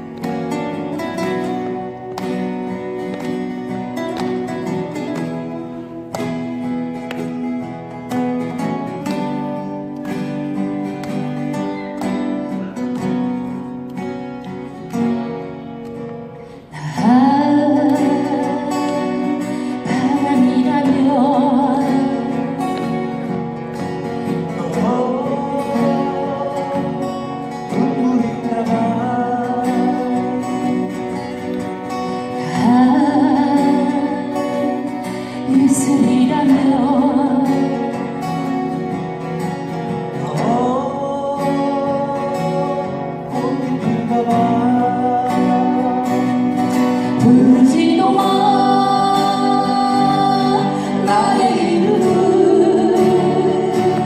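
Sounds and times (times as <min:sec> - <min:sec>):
acoustic guitar accompaniment: 0:00.0 - 0:54.0.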